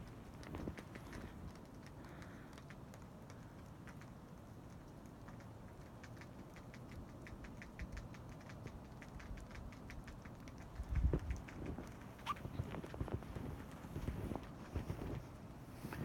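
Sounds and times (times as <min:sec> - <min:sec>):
faint ticking and pattering: 0:00.0 - 0:16.0.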